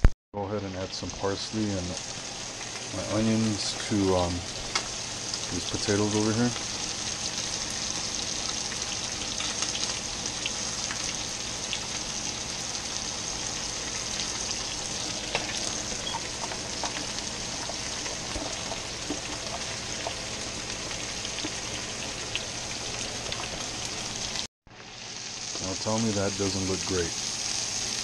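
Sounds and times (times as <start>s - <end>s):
food sizzling in oil: 0.7s - 28.0s
oil popping and crackling: 0.8s - 28.0s.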